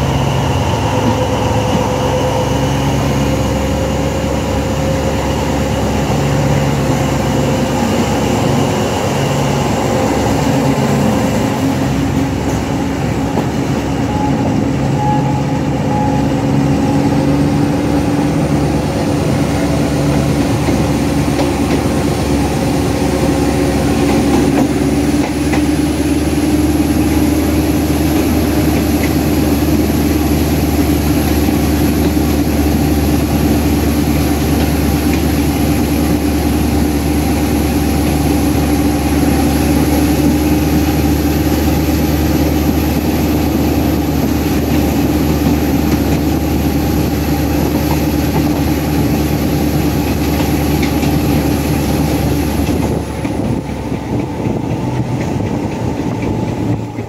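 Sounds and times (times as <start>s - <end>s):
diesel locomotive engine drone: 0.0s - 57.0s
high engine whine: 0.0s - 57.0s.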